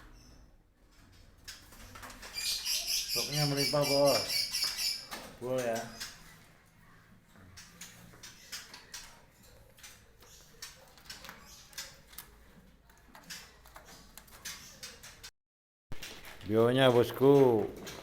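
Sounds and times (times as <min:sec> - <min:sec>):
birds clicking and scratching: 0:00.0 - 0:15.3, 0:16.0 - 0:18.0.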